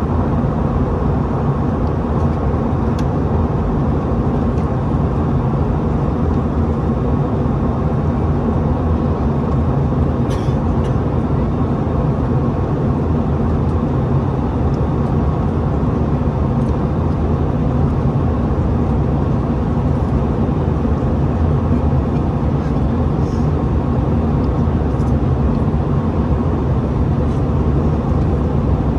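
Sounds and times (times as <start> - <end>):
jet engines rumbling in cabin: 0.0 - 28.9.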